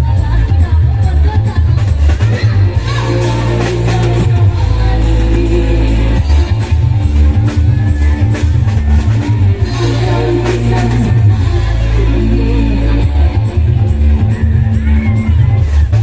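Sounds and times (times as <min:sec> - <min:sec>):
pulsing bass line: 0:00.0 - 0:16.0
steady drum beat: 0:00.0 - 0:16.0
electronic keyboard music: 0:02.2 - 0:16.0.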